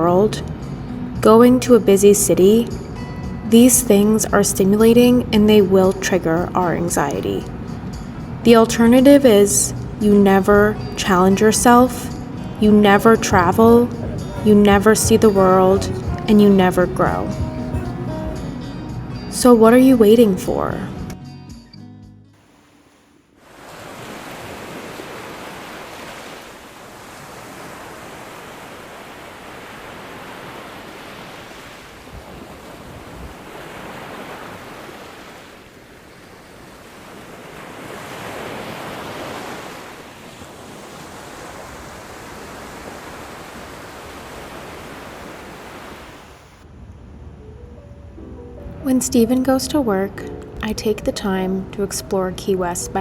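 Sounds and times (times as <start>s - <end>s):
ocean waves breaking: 0.0s - 21.0s, 22.4s - 46.7s.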